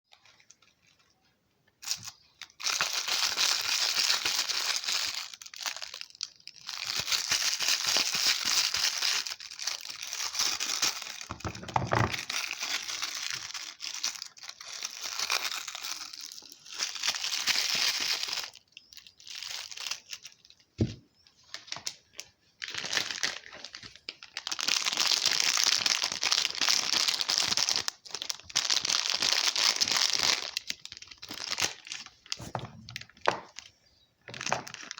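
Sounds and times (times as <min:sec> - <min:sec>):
soap packaging crinkling and tearing: 0:01.8 - 0:20.7, 0:21.5 - 0:34.9.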